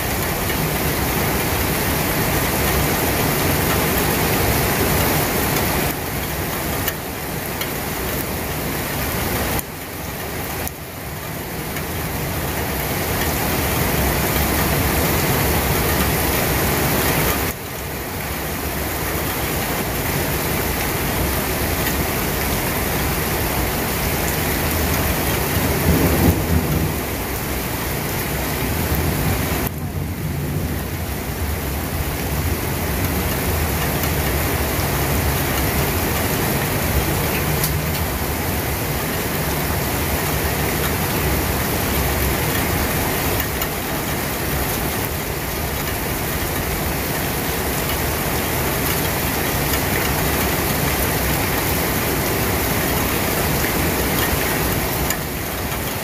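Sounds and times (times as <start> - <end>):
heavy rain on a window: 0.0 - 56.0.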